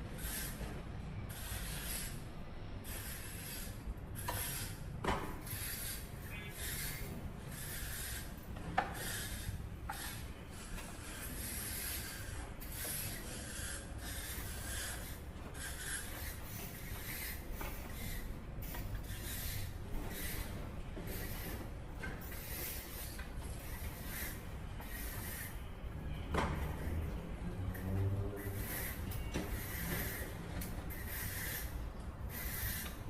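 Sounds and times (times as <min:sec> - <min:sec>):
scraping strokes: 0:02.9 - 0:33.0.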